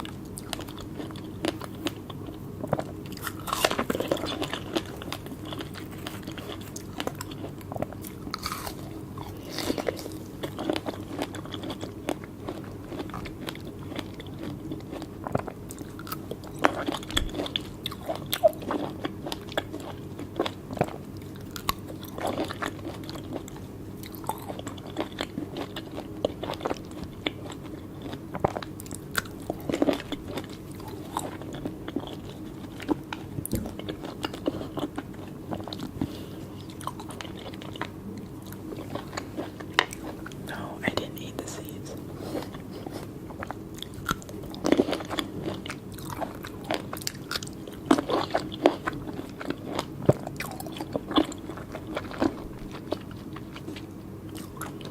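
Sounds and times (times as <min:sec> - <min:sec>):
biting and chewing fruit: 0:00.0 - 0:54.9.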